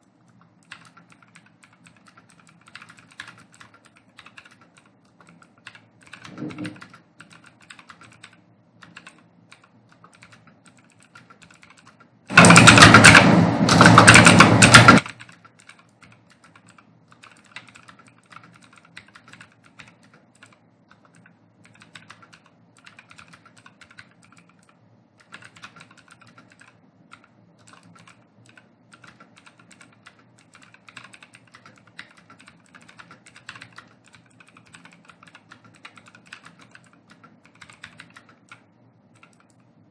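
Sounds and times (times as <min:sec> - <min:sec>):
computer keyboard typing: 0:00.2 - 0:39.9.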